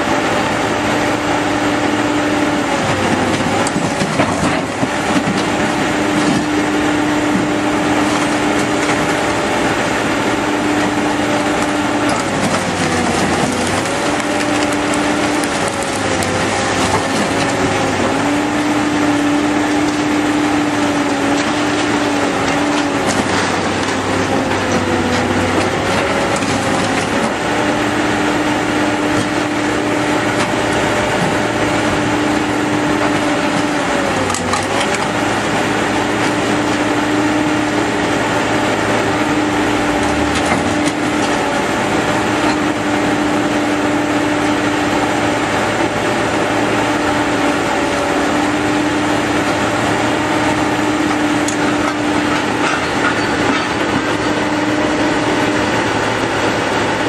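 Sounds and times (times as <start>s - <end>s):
diesel engine and hydraulic whine: 0.0s - 57.0s
scrap metal clanking and crunching: 2.9s - 42.9s, 46.9s - 55.1s.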